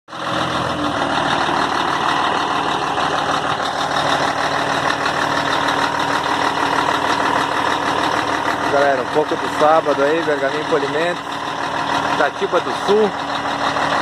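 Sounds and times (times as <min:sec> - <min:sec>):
diesel truck engine idling: 0:00.1 - 0:14.0.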